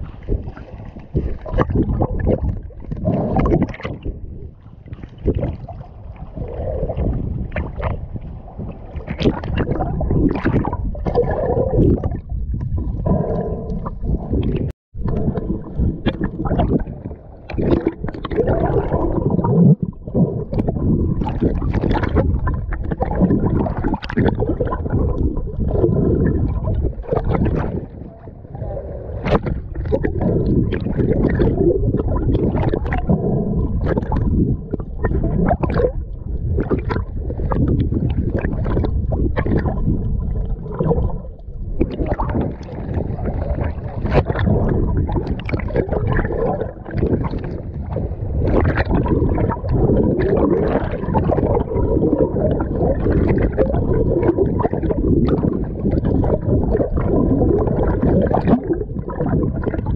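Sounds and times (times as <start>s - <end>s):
water and wind buffeting microphone: 0.0s - 59.9s
water splashing and gurgling: 0.0s - 59.9s.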